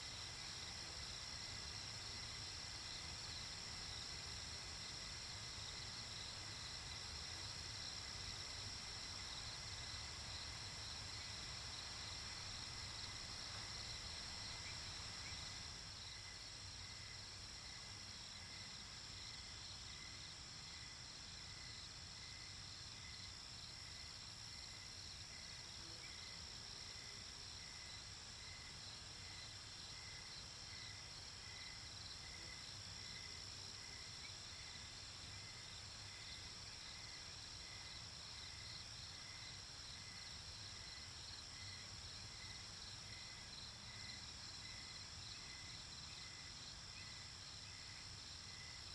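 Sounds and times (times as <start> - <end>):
crickets chirping: 0.0 - 48.9
high insect drone: 0.0 - 48.9.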